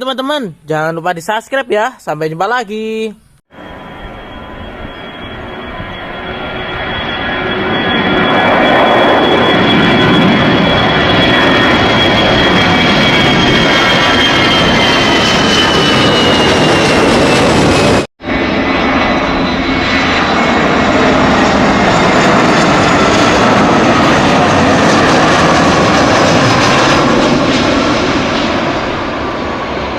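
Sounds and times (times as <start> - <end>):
engine-like roar with whine: 3.6 - 29.9.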